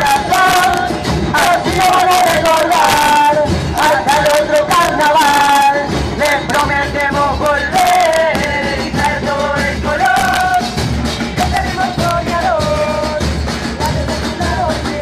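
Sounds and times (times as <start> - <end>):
bass drums: 0.0 - 15.0
chorus singing together: 0.0 - 15.0.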